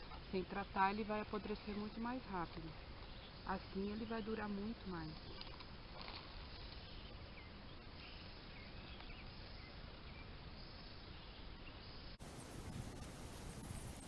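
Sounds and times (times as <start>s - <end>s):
hissy background with faint ticks: 0.0s - 14.0s.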